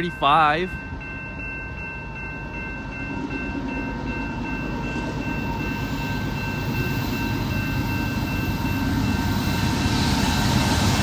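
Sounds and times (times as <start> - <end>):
freight train locomotive rumble: 0.0 - 11.0.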